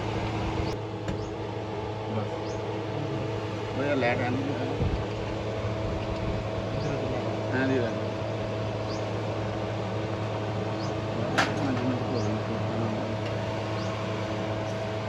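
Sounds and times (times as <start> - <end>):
mechanical hum with whine: 0.0 - 15.0.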